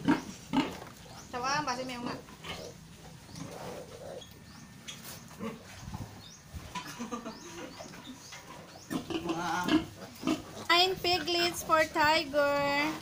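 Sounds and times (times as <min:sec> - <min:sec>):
pigs grunting and squeaking: 0:00.0 - 0:13.0.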